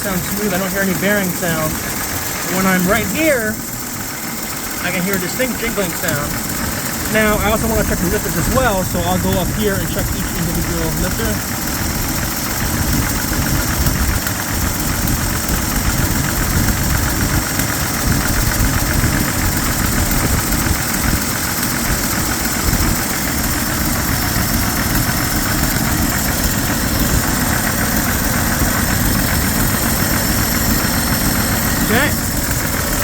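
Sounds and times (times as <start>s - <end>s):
pickup engine idling with knocking: 0.0s - 33.0s.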